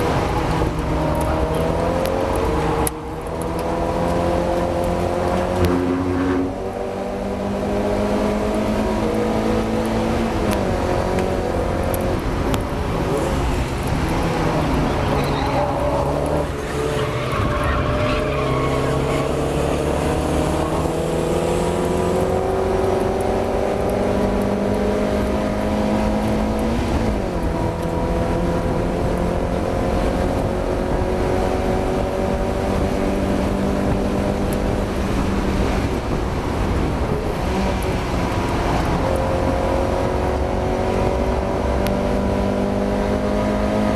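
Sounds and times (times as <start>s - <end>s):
race car engine revving: 0.0s - 43.9s.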